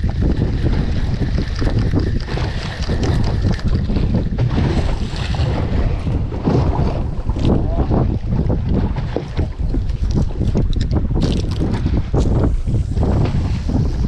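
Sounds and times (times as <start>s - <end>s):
sea washing along hull: 0.0s - 14.0s
wind buffeting microphone: 0.0s - 14.0s.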